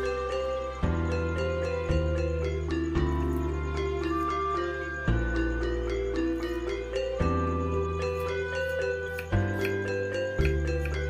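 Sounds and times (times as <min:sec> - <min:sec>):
instrumental music: 0:00.0 - 0:11.0.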